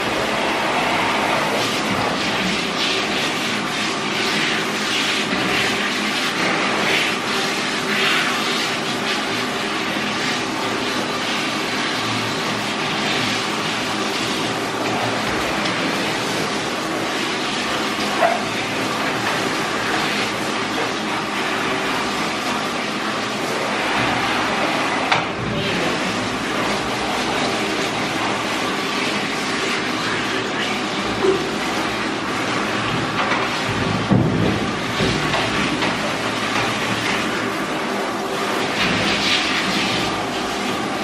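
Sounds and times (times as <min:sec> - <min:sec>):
water spraying onto steel tub: 0:00.0 - 0:41.0.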